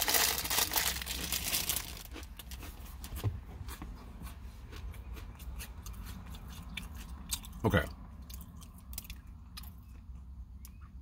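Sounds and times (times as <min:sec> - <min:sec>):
crunchy snack being chewed: 0:00.0 - 0:03.0, 0:03.7 - 0:07.6, 0:08.2 - 0:10.8.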